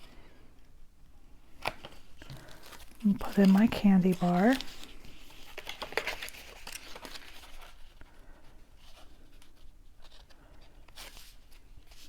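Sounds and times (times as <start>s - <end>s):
paper wrapper rustling: 1.4s - 12.0s.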